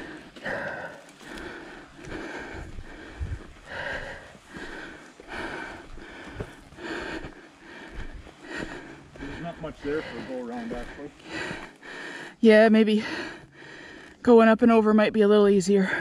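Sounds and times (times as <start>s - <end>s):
person breathing hard: 0.0s - 14.2s.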